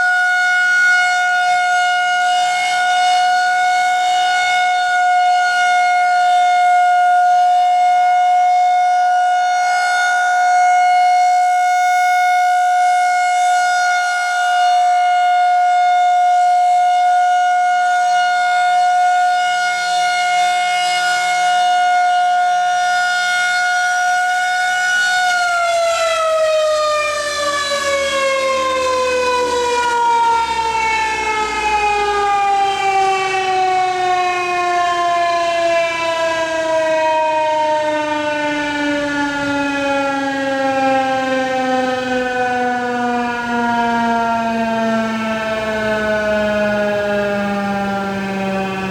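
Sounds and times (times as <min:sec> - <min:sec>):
siren winding down: 0:00.0 - 0:48.9
warning siren steady tone: 0:00.0 - 0:48.9.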